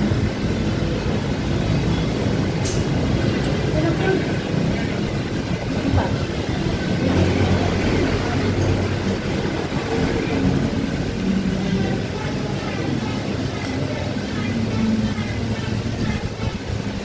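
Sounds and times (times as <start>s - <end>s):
low engine drone: 0.0s - 17.0s
road traffic rumble: 0.0s - 17.0s.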